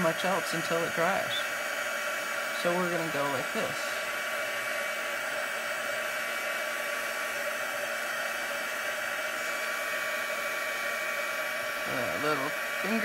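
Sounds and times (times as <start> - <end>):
heat tool fan blowing air: 0.0 - 13.0.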